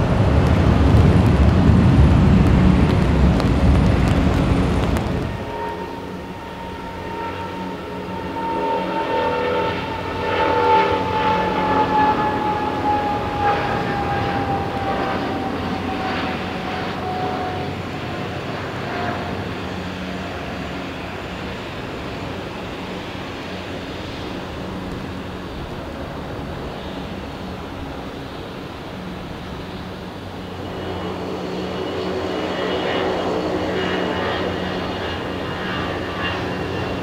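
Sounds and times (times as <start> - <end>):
jet engine rumble: 0.0 - 37.0
jet engine whine: 0.0 - 37.0.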